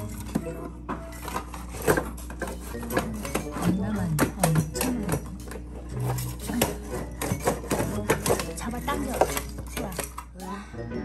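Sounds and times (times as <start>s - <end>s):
plastic toys clattering on floor: 0.0s - 10.4s
light background music: 0.0s - 11.0s.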